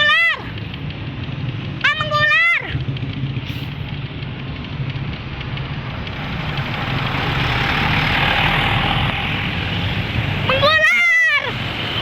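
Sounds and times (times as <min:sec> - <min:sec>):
bus diesel engine rumbling: 0:00.0 - 0:12.0
road and tyre noise: 0:00.0 - 0:12.0.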